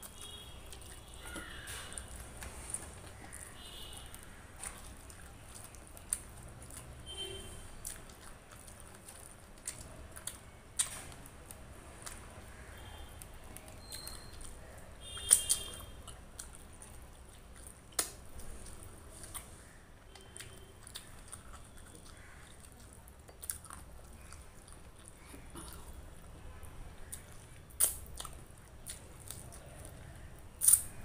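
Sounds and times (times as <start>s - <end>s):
wet chewing and mouth smacking: 0.0s - 31.0s.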